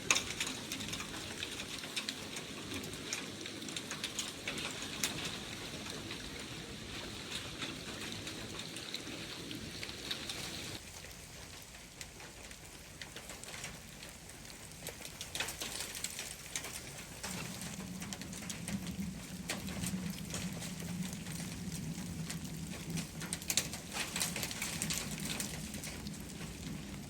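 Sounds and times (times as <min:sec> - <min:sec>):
water drops pattering on roof: 0:00.0 - 0:27.0.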